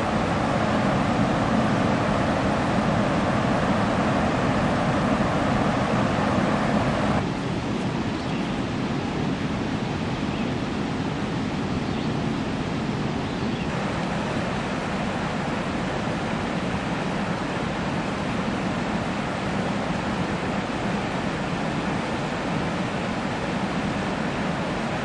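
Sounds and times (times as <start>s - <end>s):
river rushing over rocks: 0.0s - 8.1s, 12.4s - 25.0s.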